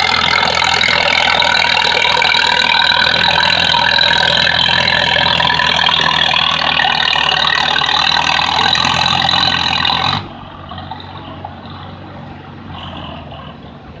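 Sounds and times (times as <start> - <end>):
tractor engine running hard: 0.0 - 14.0.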